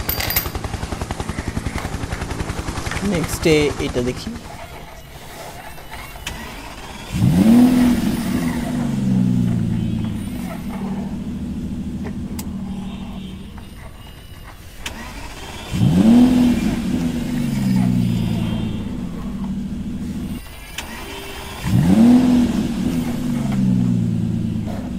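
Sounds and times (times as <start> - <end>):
toy electronic engine revving: 0.0 - 24.9.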